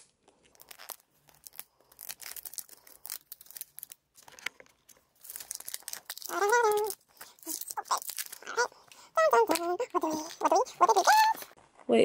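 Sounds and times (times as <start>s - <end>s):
plastic wrap tearing and crinkling: 0.2s - 11.6s.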